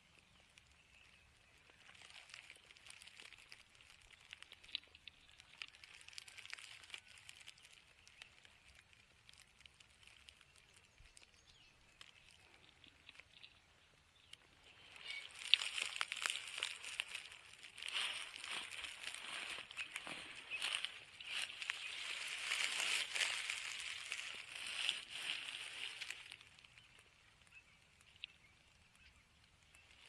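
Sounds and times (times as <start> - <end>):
light clicks and crackles: 0.0 - 30.0.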